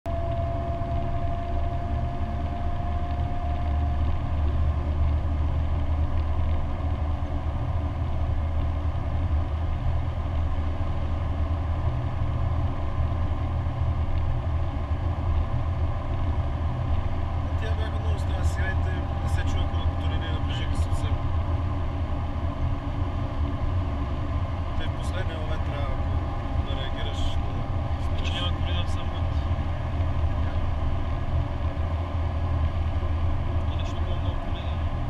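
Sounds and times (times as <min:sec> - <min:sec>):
car engine droning: 0:00.1 - 0:35.0
faint high whine: 0:00.1 - 0:35.0.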